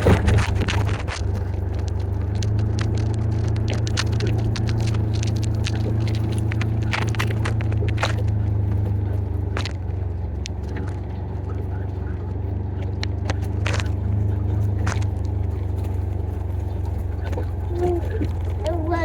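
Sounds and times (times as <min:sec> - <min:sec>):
clicks and rattles: 0:00.0 - 0:19.0
vehicle engine droning: 0:00.0 - 0:19.0.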